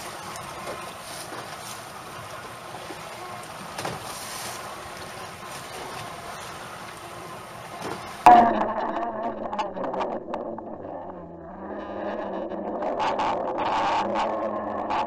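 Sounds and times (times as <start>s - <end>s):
sea noise: 0.0s - 15.0s
wind: 0.0s - 15.0s.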